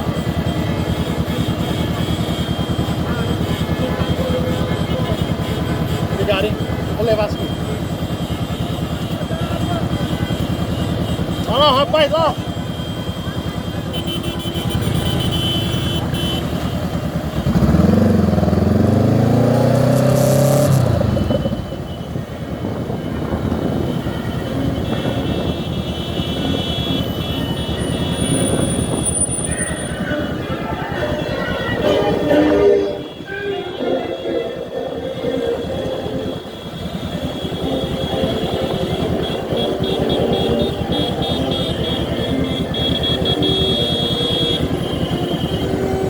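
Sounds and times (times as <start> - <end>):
motorcycle engine running: 0.0 - 31.9, 35.1 - 46.0
road and wind noise: 0.0 - 46.0.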